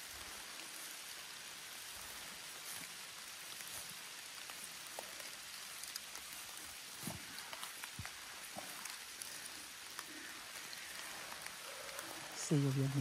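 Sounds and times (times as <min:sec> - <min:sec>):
rain on trees and leaves: 0:00.0 - 0:13.0.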